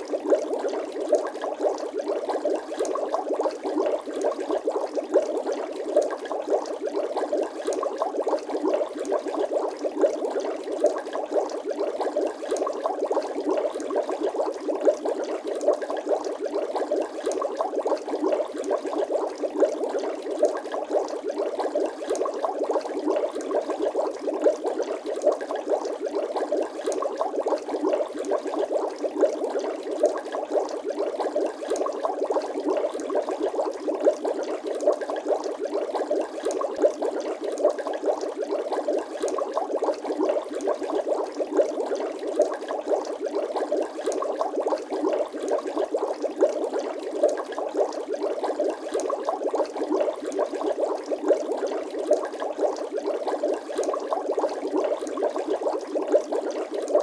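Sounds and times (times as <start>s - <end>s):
water bubbling and gurgling: 0.0s - 57.0s.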